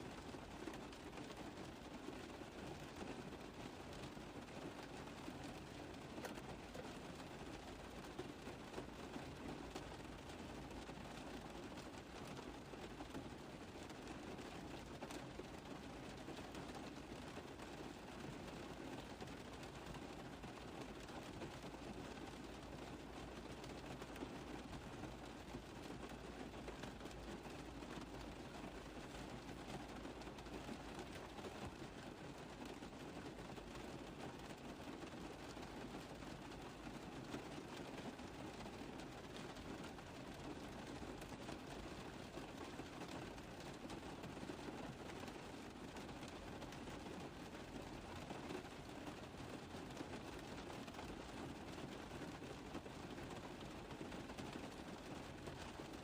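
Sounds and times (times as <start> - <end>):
rain pattering on a car roof: 0.0 - 56.0.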